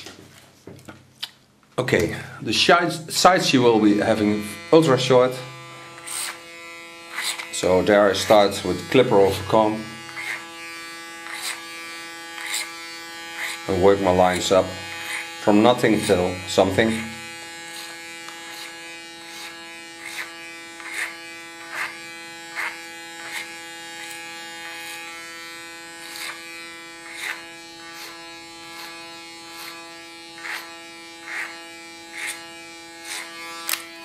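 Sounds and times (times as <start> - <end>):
electric hair clipper humming: 3.3 - 34.0.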